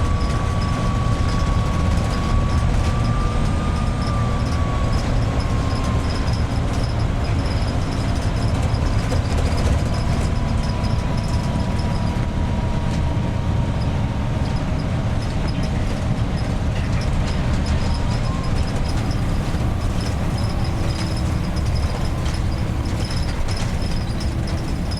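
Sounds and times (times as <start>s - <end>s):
bus engine rumble: 0.0s - 24.9s.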